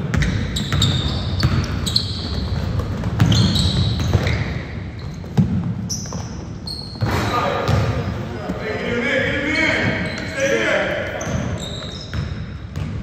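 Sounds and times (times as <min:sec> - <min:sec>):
sneakers squeaking on floor: 0:00.0 - 0:13.0.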